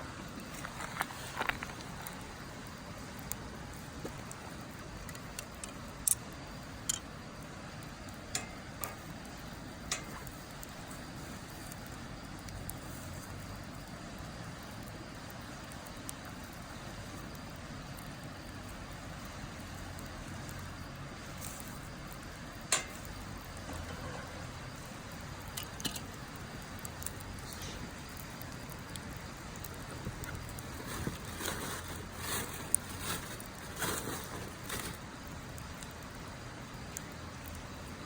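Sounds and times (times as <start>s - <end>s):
fire rushing: 0.0s - 38.0s
firewood crackling and popping: 0.0s - 38.0s.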